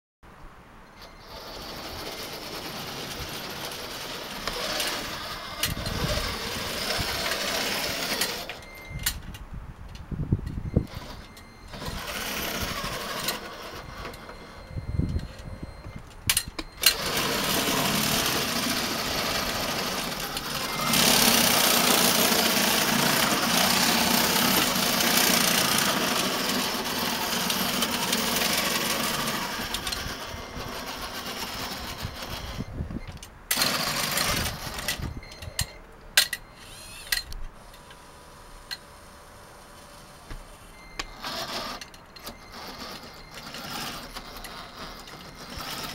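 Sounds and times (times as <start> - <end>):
toy crane motors and gearing: 1.0 - 9.3, 10.7 - 45.9.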